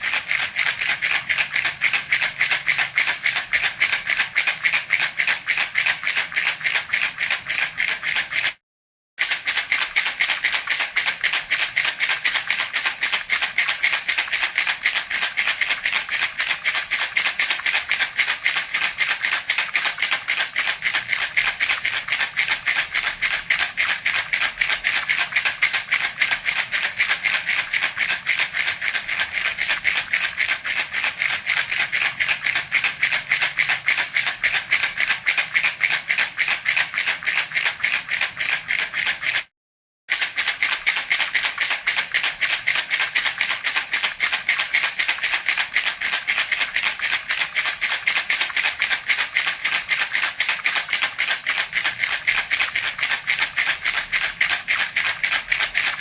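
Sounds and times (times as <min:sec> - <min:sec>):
baby rattle shaken: 0:00.0 - 0:08.6, 0:09.2 - 0:39.5, 0:40.1 - 0:56.0.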